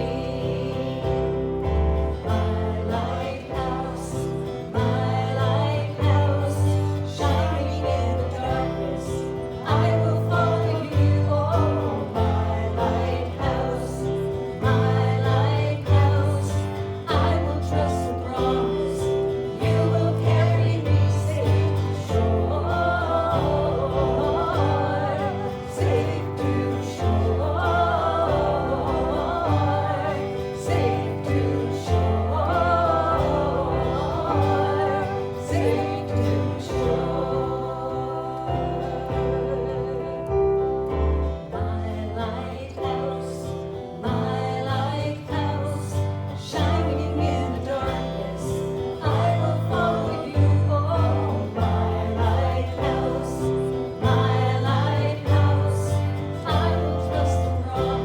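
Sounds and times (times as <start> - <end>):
voices singing gospel song: 0.0 - 58.0.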